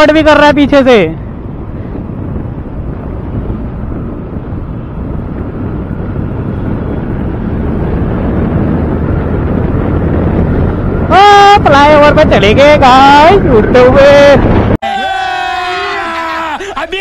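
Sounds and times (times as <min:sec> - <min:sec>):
wind rushing over microphone: 0:00.0 - 0:15.9
road noise: 0:00.0 - 0:17.0.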